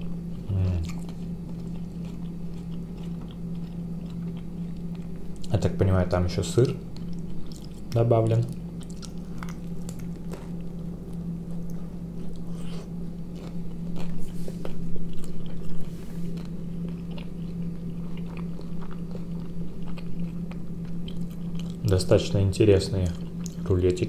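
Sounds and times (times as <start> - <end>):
man chewing with crunches: 0.0 - 5.6, 6.6 - 22.0, 23.0 - 23.7.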